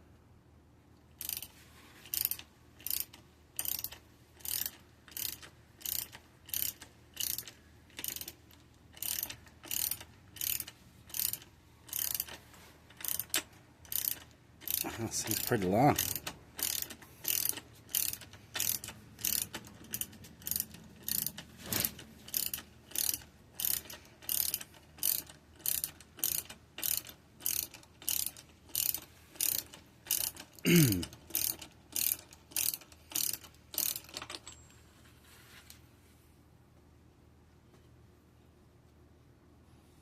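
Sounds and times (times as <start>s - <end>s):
ratchet wrench clicking: 1.2s - 34.6s.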